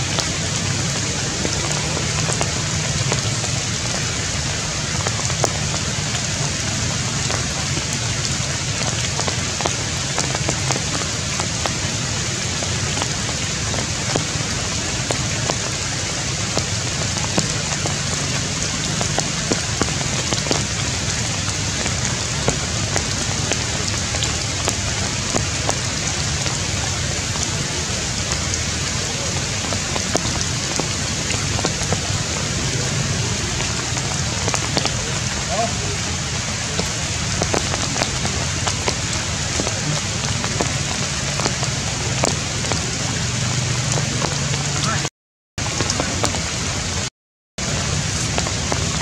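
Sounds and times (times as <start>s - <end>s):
rain falling: 0.0s - 49.0s
raindrops ticking: 0.0s - 49.0s.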